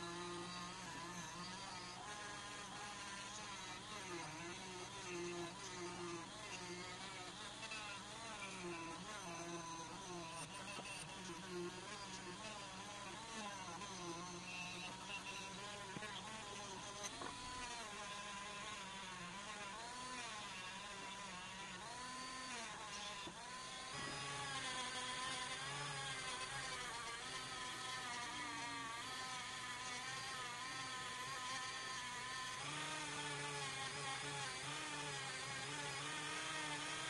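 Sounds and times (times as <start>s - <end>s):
rotary tool whining on metal: 0.0s - 37.0s.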